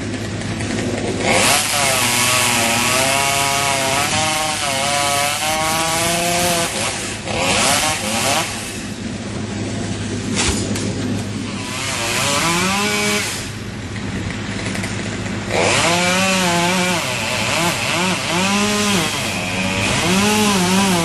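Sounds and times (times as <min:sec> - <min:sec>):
chainsaw revving and cutting wood: 0:00.0 - 0:21.0.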